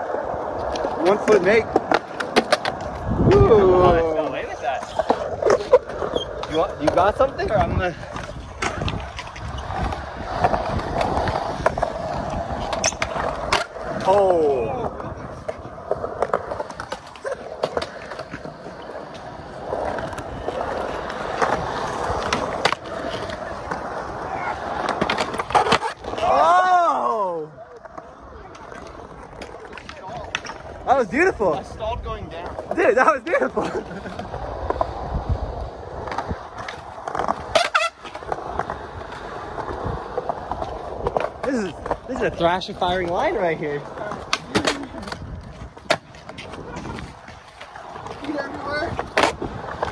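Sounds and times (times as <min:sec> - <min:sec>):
skateboard clacks: 0:00.0 - 0:27.1, 0:27.7 - 0:49.9
skateboard wheels rolling on concrete: 0:00.0 - 0:49.9.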